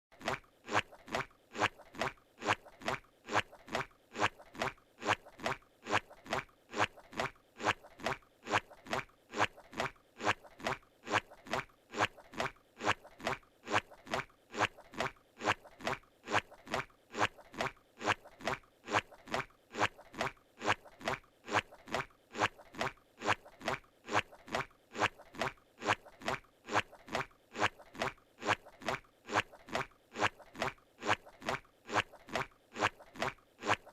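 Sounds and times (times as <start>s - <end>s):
squelchy cartoon footsteps: 0.1s - 33.9s.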